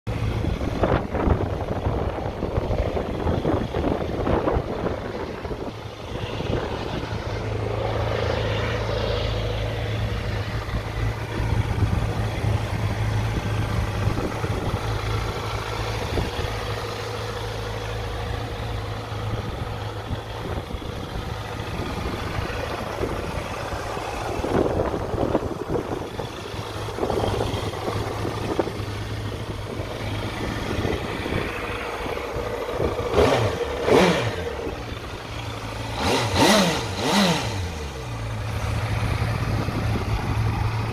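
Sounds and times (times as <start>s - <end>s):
motorcycle engine idling and revving: 0.1s - 40.9s.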